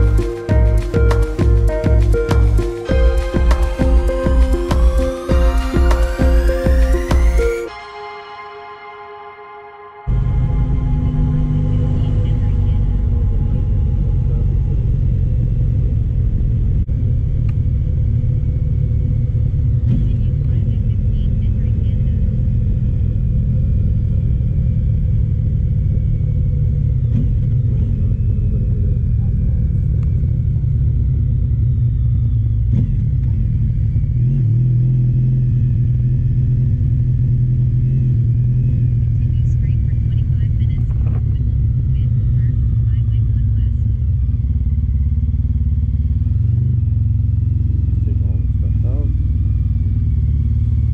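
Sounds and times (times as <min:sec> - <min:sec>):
motorcycle engine running: 0:00.0 - 0:07.6, 0:10.1 - 0:50.9.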